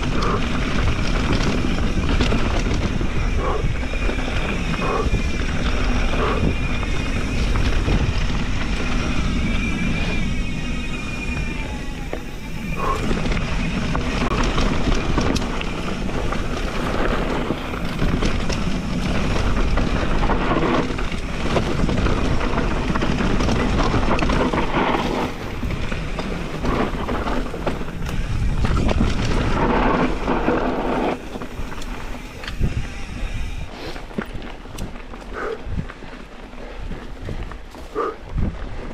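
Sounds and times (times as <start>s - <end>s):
bike rattling and knocking: 0.0s - 38.9s
tyres rumbling on dirt: 0.0s - 38.9s.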